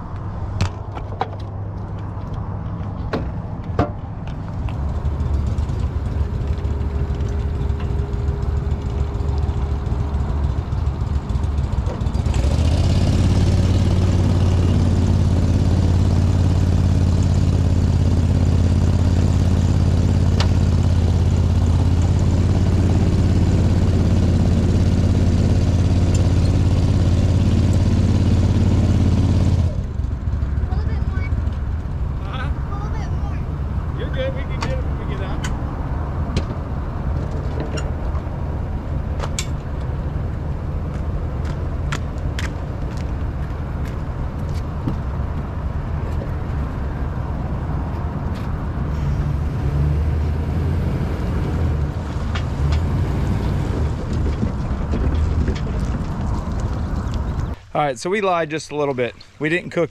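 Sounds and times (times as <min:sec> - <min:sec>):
engine running: 0:00.0 - 0:57.7.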